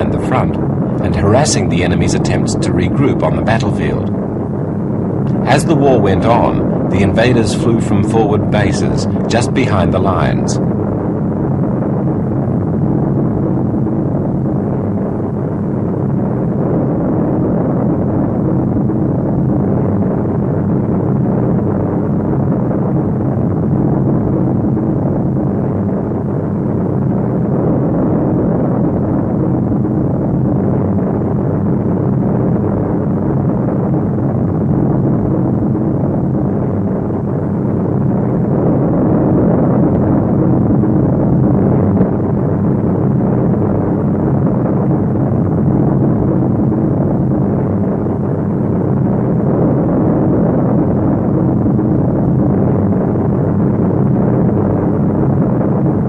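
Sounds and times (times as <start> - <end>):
propeller planes droning: 0.0 - 56.0.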